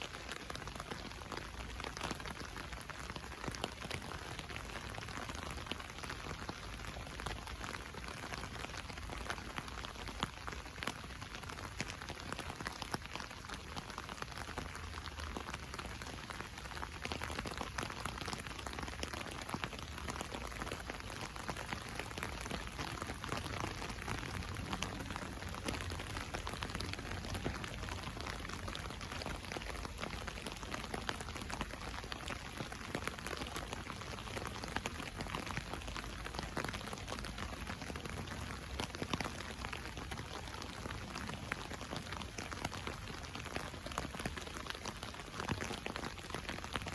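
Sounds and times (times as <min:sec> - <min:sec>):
rain drumming on umbrella: 0:00.0 - 0:46.9.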